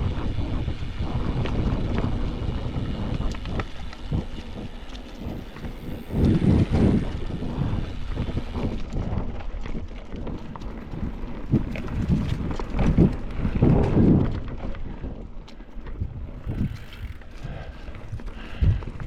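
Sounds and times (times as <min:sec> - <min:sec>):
bike rattling on rocks: 0:00.0 - 0:19.0
bike tyres rolling on dirt: 0:00.0 - 0:19.0
wind buffeting microphone: 0:00.0 - 0:19.0.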